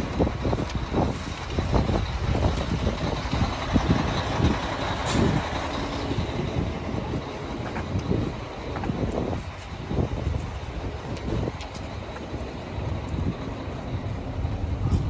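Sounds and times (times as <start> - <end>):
footsteps: 0.0 - 15.0
street traffic: 0.0 - 15.0
truck engine running: 0.0 - 15.0.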